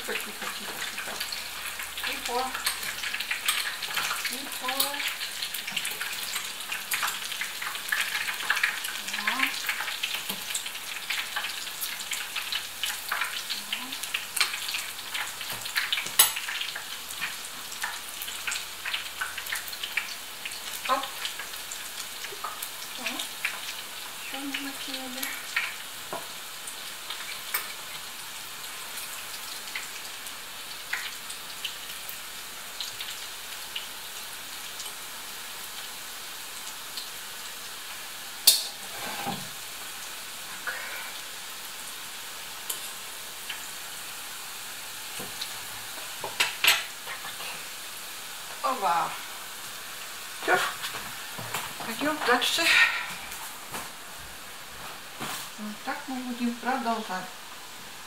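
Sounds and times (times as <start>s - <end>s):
dough frying in hot oil: 0.0s - 58.0s.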